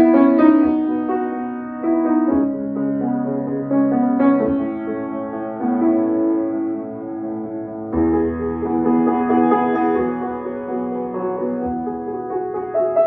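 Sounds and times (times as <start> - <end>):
slow gentle piano: 0.0 - 13.0.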